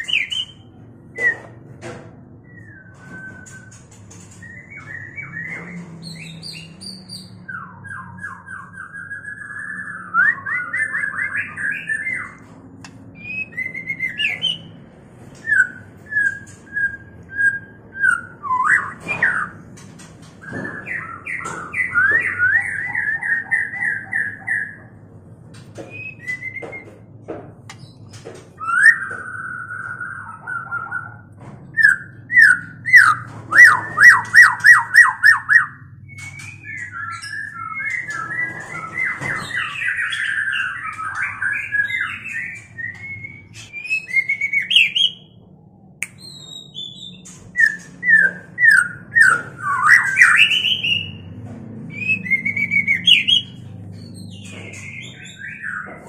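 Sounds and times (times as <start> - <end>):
birds singing and calling: 0.0 - 56.0.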